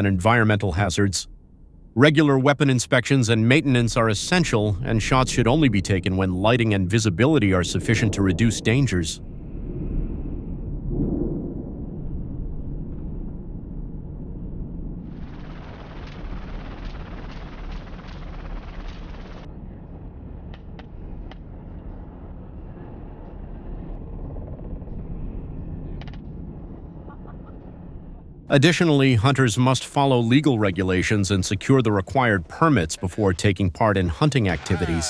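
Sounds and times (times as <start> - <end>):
helicopter rumble: 0.0 - 9.3, 13.1 - 35.0.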